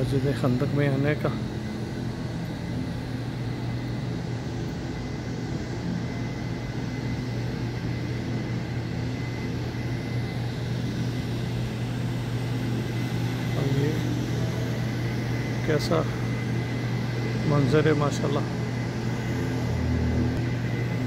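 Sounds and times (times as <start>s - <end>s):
air-conditioning units humming: 0.0s - 21.0s.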